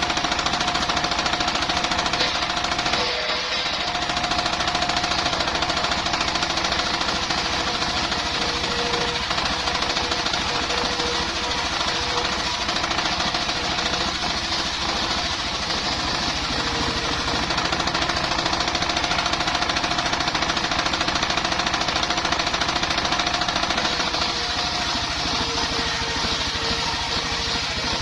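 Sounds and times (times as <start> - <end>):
saw blade whine: 0.0 - 28.0
sawmill engine running: 0.0 - 28.0.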